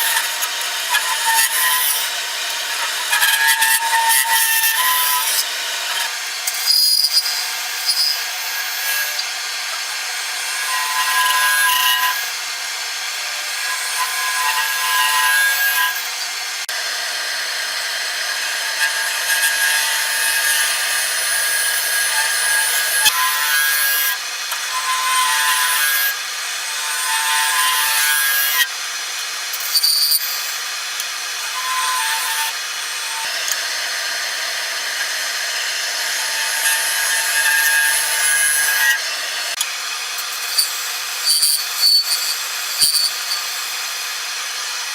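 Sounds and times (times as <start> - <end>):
wood lathe tool cutting: 0.0 - 44.9.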